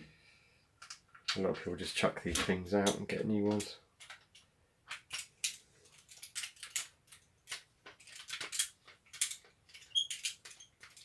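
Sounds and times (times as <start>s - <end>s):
clicks and rattles of small parts: 0.8s - 1.7s, 2.3s - 11.0s.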